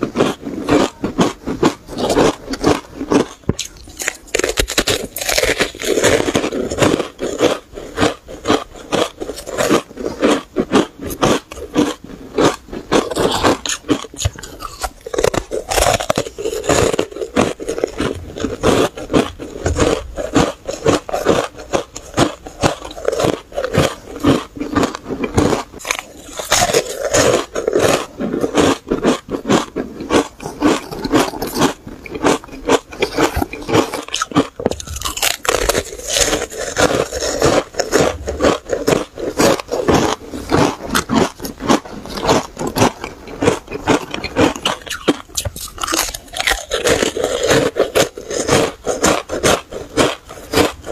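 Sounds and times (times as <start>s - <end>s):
ice crunching between teeth: 0.0s - 50.9s.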